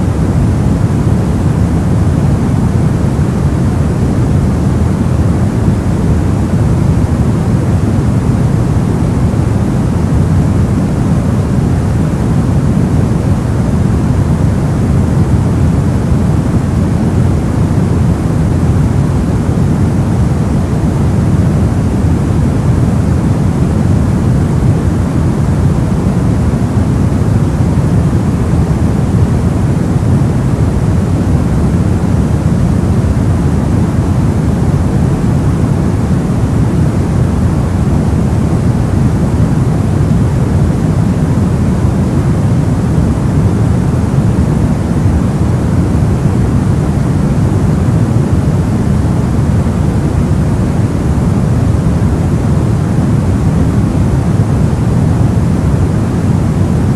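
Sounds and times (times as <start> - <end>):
low white noise hiss: 0.0 - 56.9.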